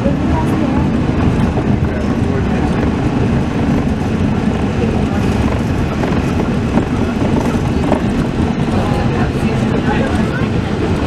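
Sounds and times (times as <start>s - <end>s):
monorail rumbling: 0.0s - 11.0s.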